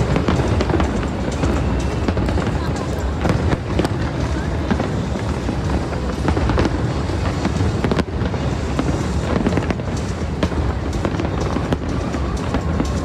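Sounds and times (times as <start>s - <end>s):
continuous rumble: 0.0s - 13.0s
fireworks bangs and crackles: 0.0s - 13.0s.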